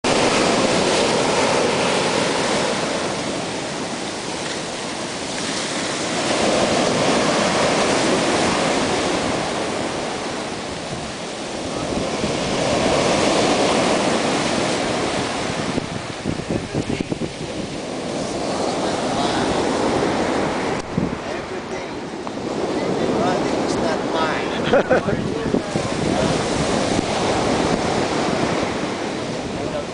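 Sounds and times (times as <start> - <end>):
ocean surf breaking on beach: 0.0 - 29.9.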